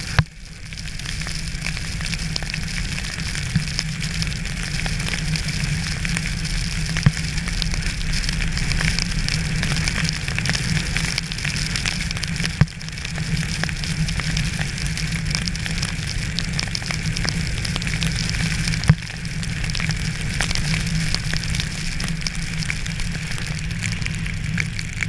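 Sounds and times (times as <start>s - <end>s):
low rumble: 0.0s - 25.0s
sleet and rain pattering: 0.0s - 25.0s.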